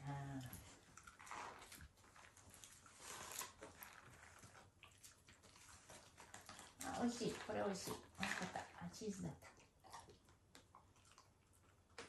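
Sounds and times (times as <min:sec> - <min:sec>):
dog chewing: 0:00.1 - 0:12.0.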